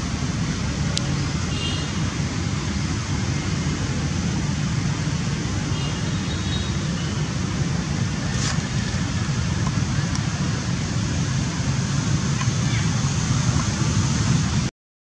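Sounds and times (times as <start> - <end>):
low outdoor rumble: 0.0 - 14.7.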